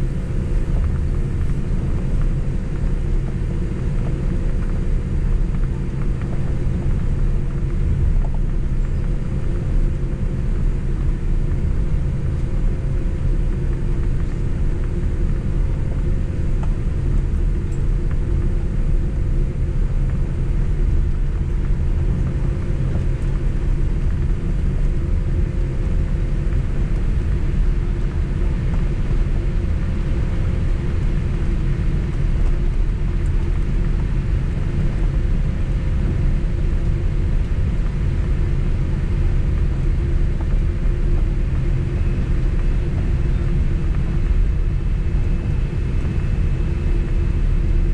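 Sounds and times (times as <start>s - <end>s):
airliner cabin rumble: 0.0s - 47.9s
jet engines idling hum: 0.0s - 47.9s.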